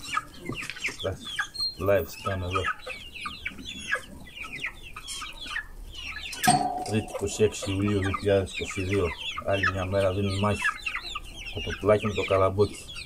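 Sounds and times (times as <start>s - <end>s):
chicks clucking and peeping: 0.0s - 13.0s.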